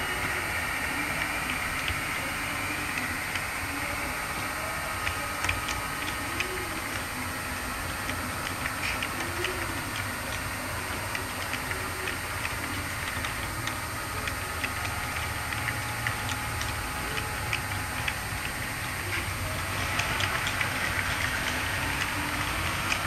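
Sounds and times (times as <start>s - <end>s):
model train wheels clicking on rails: 0.0s - 23.0s.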